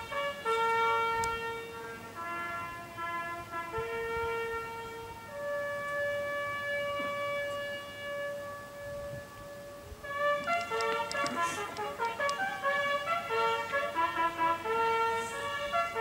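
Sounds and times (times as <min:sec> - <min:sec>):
brass bugle call: 0:00.0 - 0:16.0.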